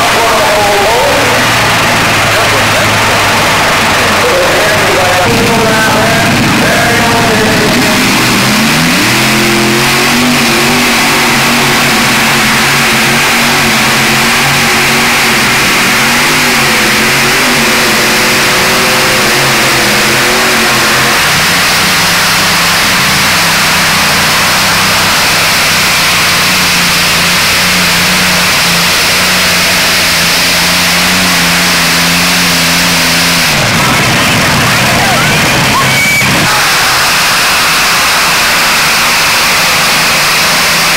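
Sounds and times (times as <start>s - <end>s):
tractor engines running hard: 0.0s - 40.9s.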